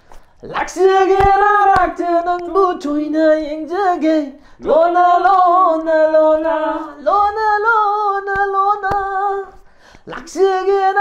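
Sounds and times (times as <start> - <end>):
man singing unaccompanied: 0.4 - 11.0.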